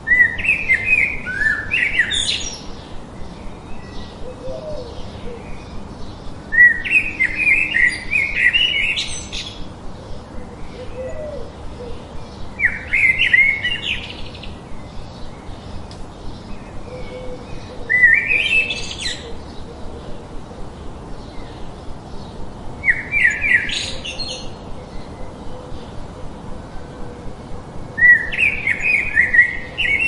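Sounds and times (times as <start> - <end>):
songbird chirping: 0.0 - 30.0
steady background hiss: 0.0 - 30.0.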